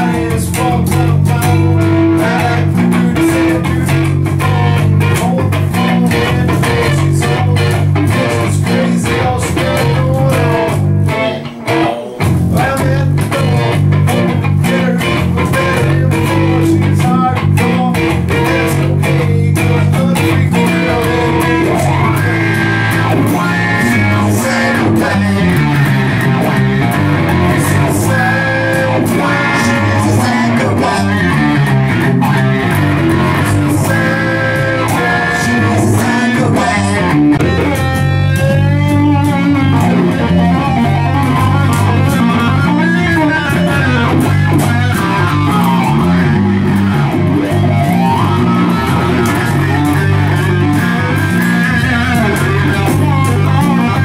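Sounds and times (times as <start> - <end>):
instrumental rock music: 0.0 - 54.0.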